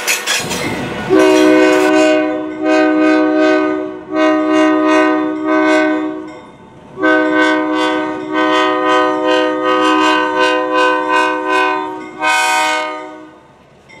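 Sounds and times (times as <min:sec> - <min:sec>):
locomotive air horn blasts: 0:01.1 - 0:06.4, 0:07.0 - 0:13.4.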